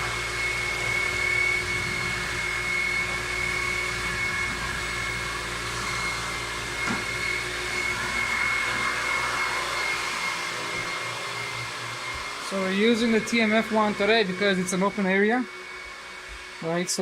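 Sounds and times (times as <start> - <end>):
carpet extraction machine vacuuming: 0.0 - 17.0.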